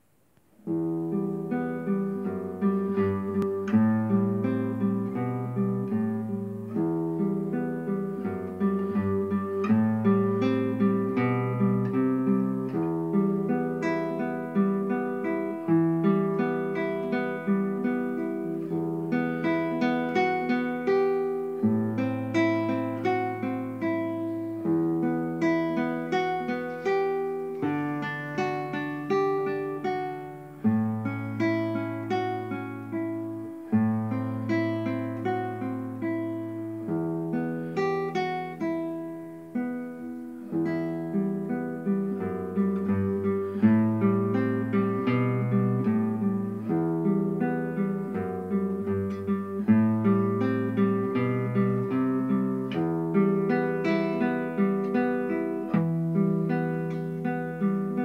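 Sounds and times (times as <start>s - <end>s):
solo classical guitar: 0.0s - 58.0s.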